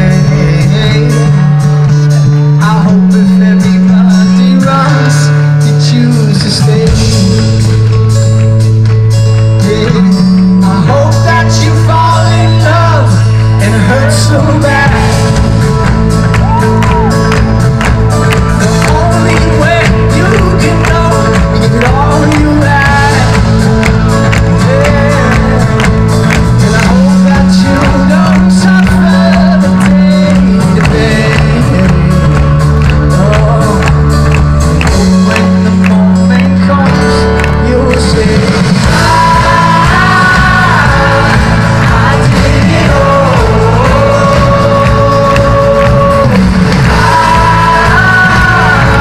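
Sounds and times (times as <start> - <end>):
drums: 0.0 - 49.0
heavy bass notes: 0.0 - 49.0
sung lead vocal: 0.0 - 49.0.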